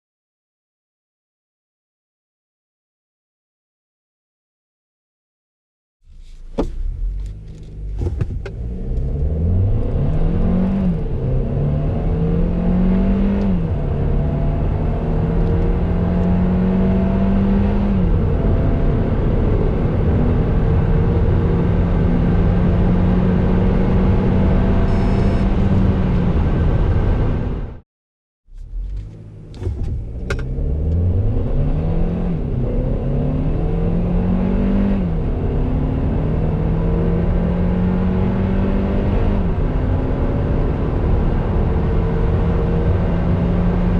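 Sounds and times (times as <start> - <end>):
car engine accelerating: 6.1 - 27.8, 28.5 - 43.9
road noise: 6.1 - 27.8, 28.5 - 43.9.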